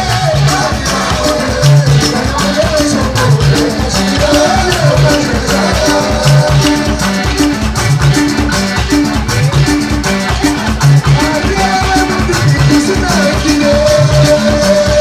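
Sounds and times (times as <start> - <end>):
loud music with steady beat: 0.0 - 15.0.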